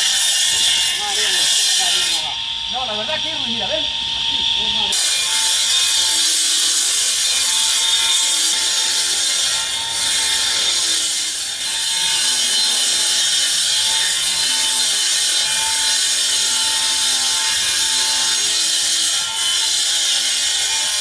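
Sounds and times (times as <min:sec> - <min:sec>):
power saw cutting: 0:00.0 - 0:21.0.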